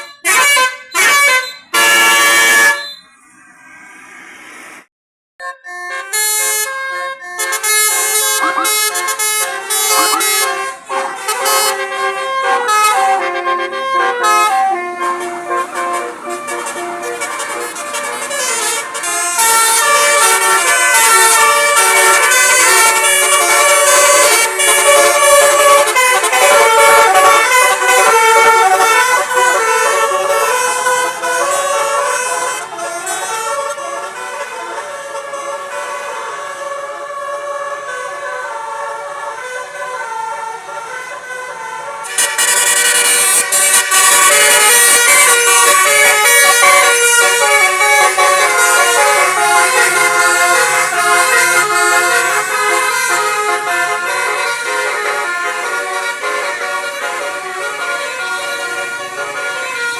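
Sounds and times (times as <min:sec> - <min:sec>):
bus musical horn playing a tune: 0:00.0 - 0:03.2, 0:05.4 - 0:59.9.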